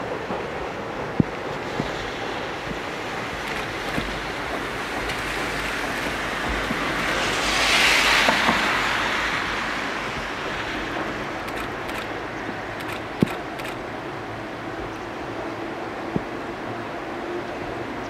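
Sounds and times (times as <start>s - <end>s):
river rushing: 0.0s - 18.0s
train crossing bridge: 0.0s - 18.0s
wind: 0.0s - 18.0s.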